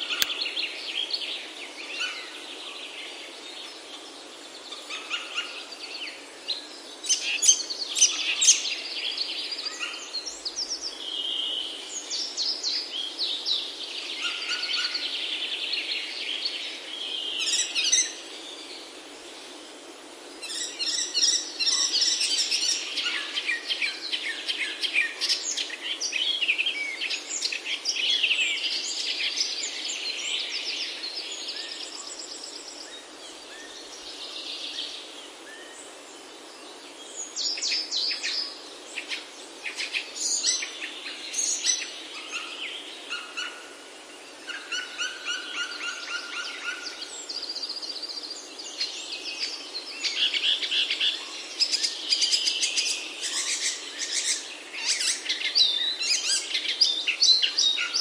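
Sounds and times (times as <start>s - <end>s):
small birds chirping and trilling: 0.0s - 58.0s
steady background hiss: 0.0s - 58.0s.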